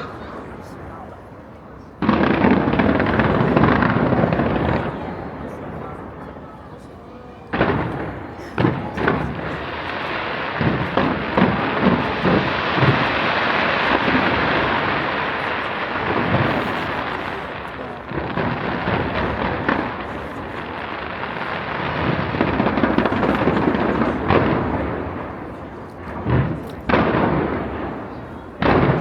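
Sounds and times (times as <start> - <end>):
fireworks crackling: 0.0 - 6.9, 7.5 - 29.0
deep fireworks booms: 1.9 - 6.5, 7.5 - 29.0.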